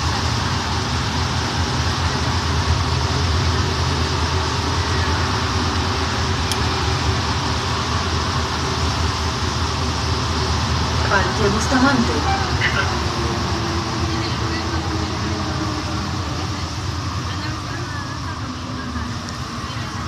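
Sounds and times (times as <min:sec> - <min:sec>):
train running through tunnel: 0:00.0 - 0:20.0.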